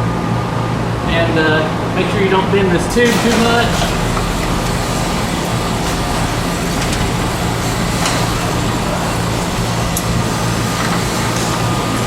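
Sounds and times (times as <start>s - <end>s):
low hum: 0.0s - 12.0s
mechanical rushing drone: 0.0s - 12.0s.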